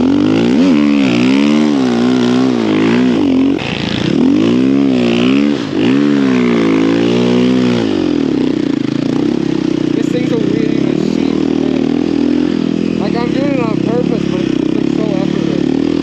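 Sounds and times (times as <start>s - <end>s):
snow bike engine revving: 0.0s - 16.0s.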